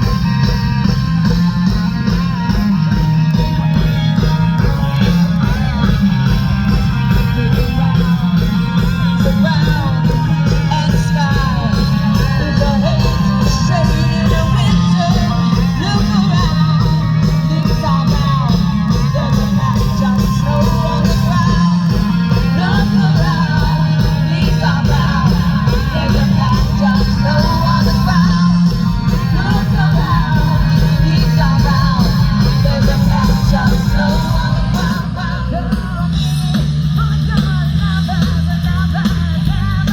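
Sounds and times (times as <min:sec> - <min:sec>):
heavy bass: 0:00.0 - 0:39.9
lead vocal singing: 0:00.0 - 0:39.9
rock band playing live: 0:00.0 - 0:39.9.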